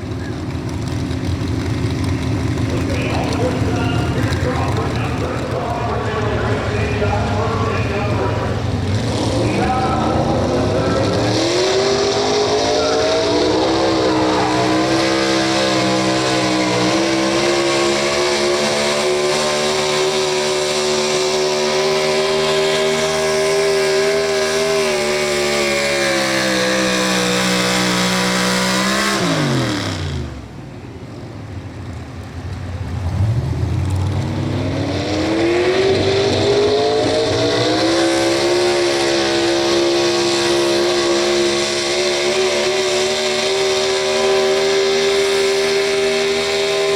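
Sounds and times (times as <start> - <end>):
truck engine screaming at full throttle: 0.0 - 31.5, 32.8 - 46.9.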